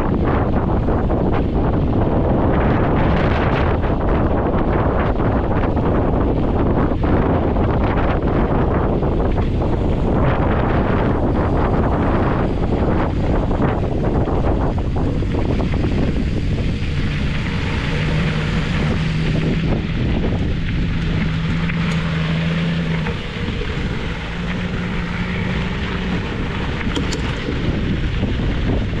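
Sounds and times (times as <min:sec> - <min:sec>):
low engine drone: 0:00.0 - 0:29.0
wind buffeting microphone: 0:00.0 - 0:29.0.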